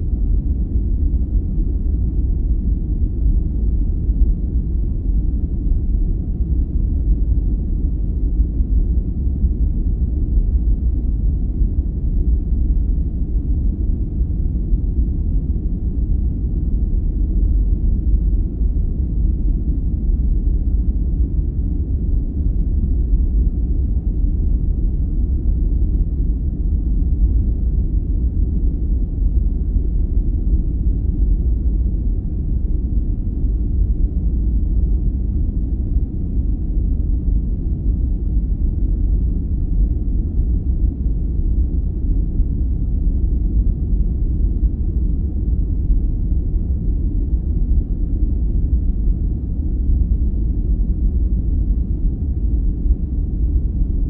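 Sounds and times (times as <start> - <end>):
low rumbling brown noise: 0.0 - 54.0.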